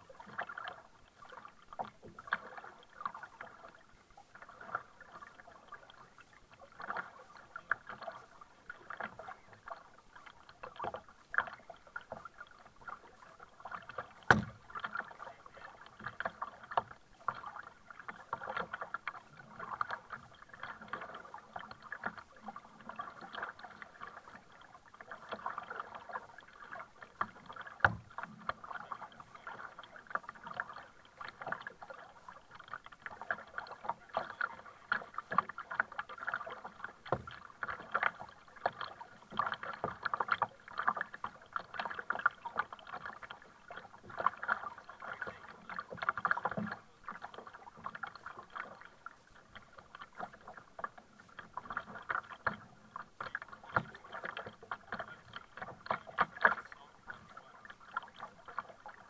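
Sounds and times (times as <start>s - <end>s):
kayak paddle splashing: 0.0s - 59.0s
water lapping against hull: 0.0s - 59.0s.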